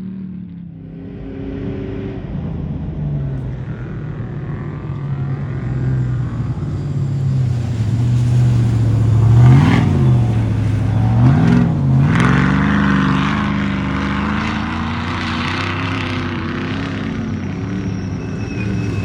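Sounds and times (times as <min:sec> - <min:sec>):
engine revving and accelerating: 0:00.0 - 0:19.0.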